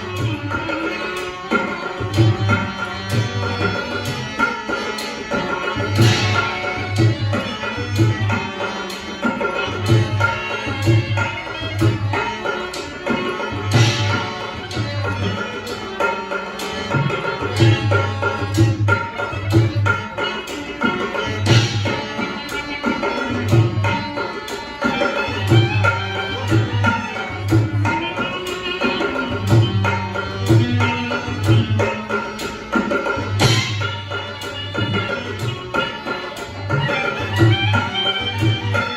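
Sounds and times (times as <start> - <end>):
hand drum rhythm: 0.0 - 38.9
sustained melody instruments: 0.0 - 38.9.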